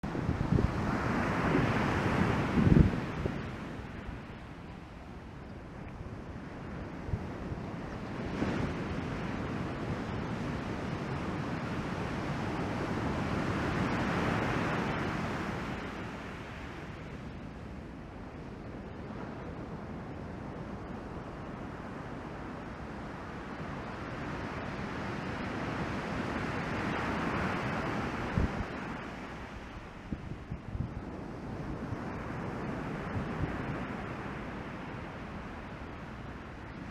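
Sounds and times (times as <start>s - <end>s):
ocean waves breaking: 0.0s - 36.9s
wind buffeting microphone: 0.0s - 36.9s.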